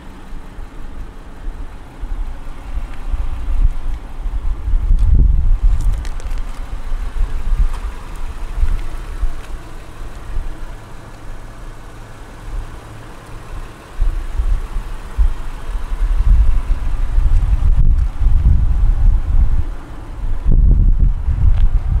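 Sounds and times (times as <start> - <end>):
wind buffeting microphone: 1.4 - 11.7, 13.6 - 22.0.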